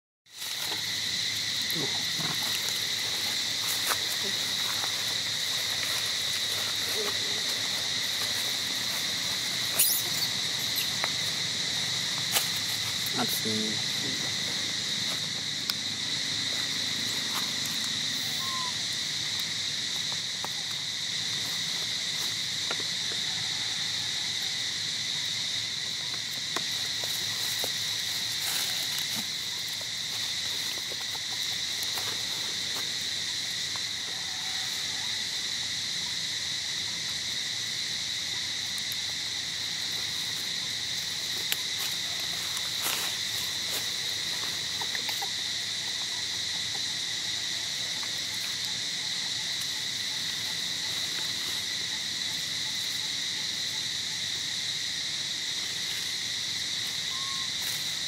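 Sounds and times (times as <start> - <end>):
insects droning: 0.3 - 58.0.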